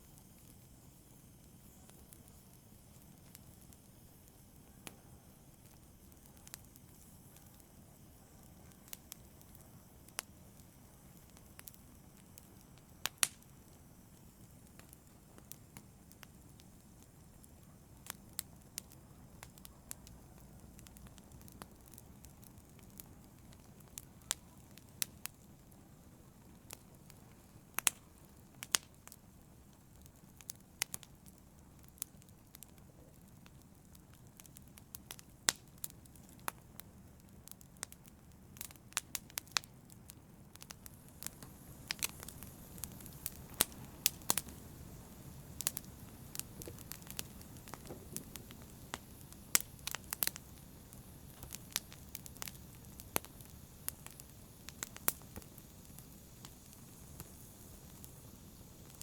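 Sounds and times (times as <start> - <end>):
low rumble of burning: 0.0 - 59.0
wood fire crackling: 0.0 - 59.0.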